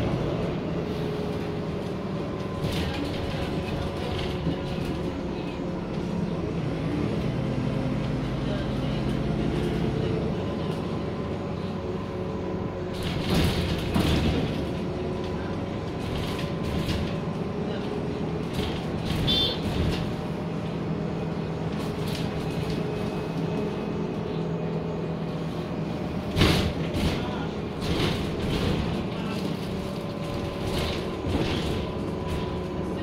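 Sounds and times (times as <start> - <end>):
bus engine hum: 0.0 - 33.0.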